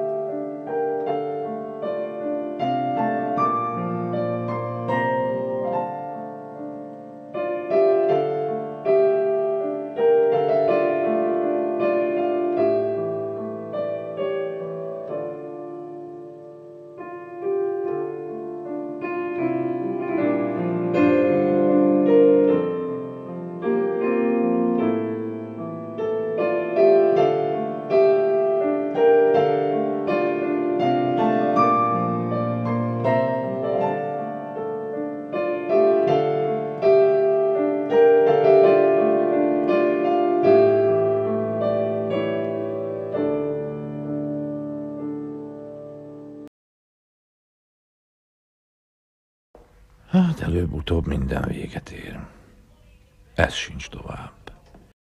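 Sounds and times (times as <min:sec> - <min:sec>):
slow piano music: 0:00.0 - 0:46.5, 0:49.6 - 0:55.0.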